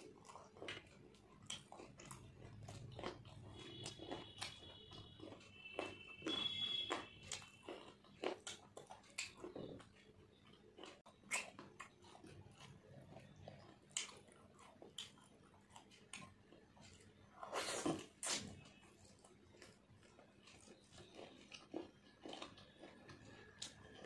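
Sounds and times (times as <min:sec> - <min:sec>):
person chewing and lip smacking: 0:00.0 - 0:24.0.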